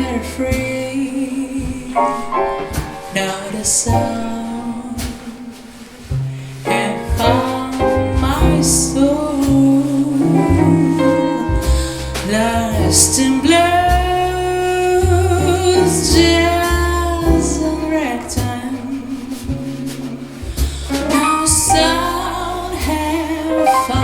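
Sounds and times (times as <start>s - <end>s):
double bass: 0.0s - 24.0s
drums: 0.0s - 24.0s
woman singing jazz ballad: 0.0s - 24.0s.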